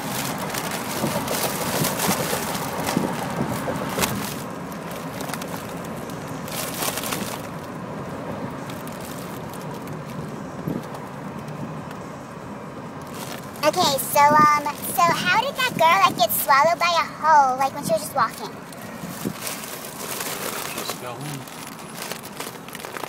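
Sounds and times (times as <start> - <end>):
foil balloon crinkling: 0.0 - 7.8, 8.5 - 11.5, 13.0 - 16.5, 18.3 - 23.0
car road noise: 0.0 - 23.0.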